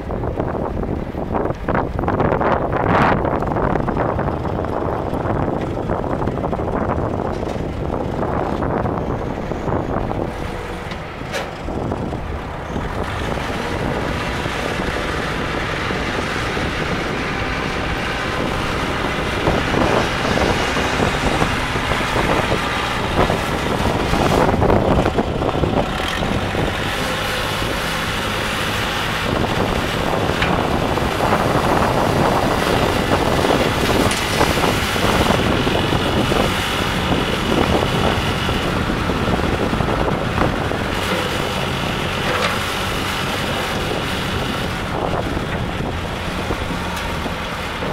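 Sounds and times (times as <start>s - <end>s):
backhoe engine running: 0.0s - 47.9s.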